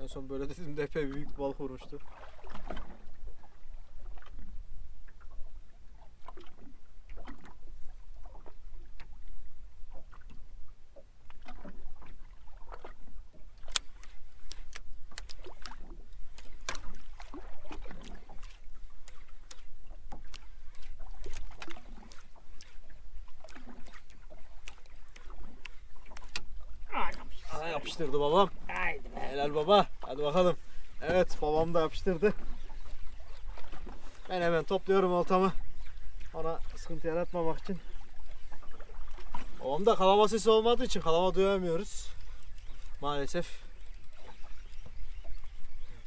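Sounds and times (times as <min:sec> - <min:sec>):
waves lapping against boat hull: 0:00.0 - 0:46.0.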